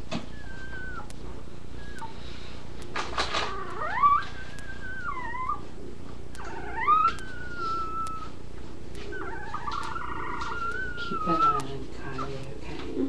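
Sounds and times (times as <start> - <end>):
puppy whining: 0.1 - 2.3, 2.9 - 13.0.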